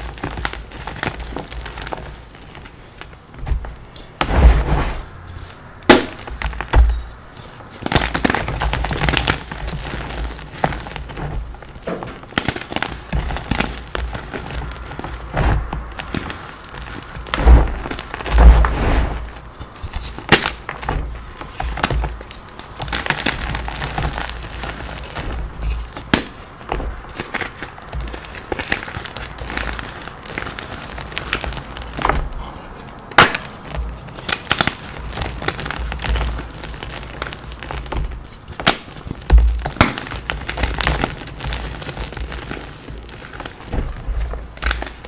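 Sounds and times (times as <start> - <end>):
chalk crunching and snapping: 0.0 - 45.0.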